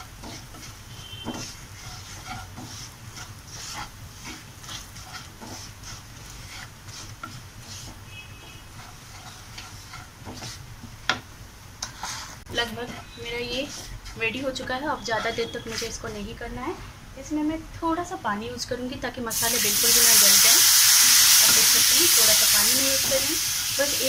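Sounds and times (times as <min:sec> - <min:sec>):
spatula scraping a pan: 0:00.0 - 0:11.2, 0:11.8 - 0:16.4, 0:19.8 - 0:24.0
garlic and spices frying: 0:00.0 - 0:24.0.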